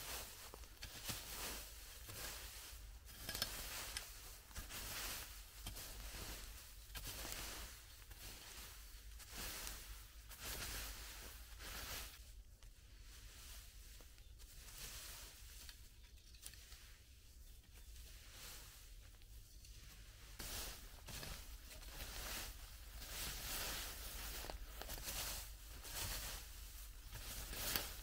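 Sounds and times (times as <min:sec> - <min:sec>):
rake scraping through dry leaves: 0:00.0 - 0:28.0.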